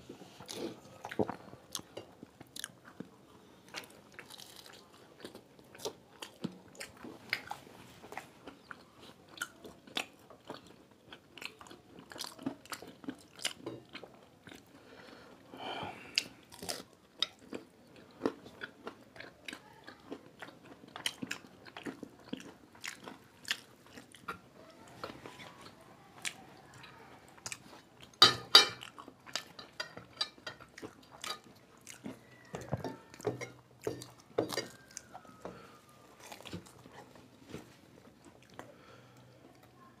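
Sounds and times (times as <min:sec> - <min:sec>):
crunching and chewing food: 0:00.0 - 0:40.0.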